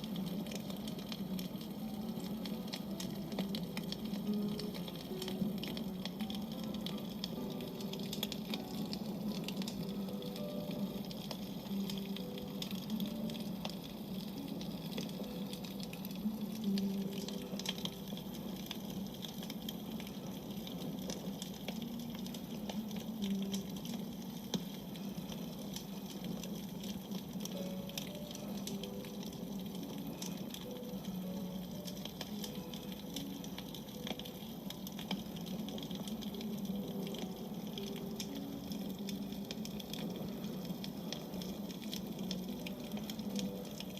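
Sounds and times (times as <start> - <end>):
campfire crackling and popping: 0.0 - 43.9
steady fire hiss: 0.0 - 43.9.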